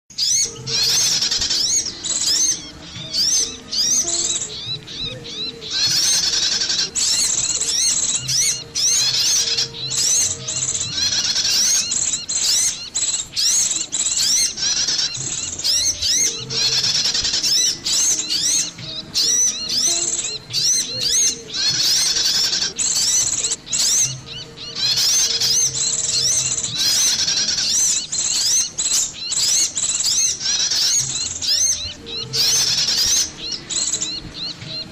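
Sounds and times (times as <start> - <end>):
songbirds chirping and twittering: 0.1 - 34.9.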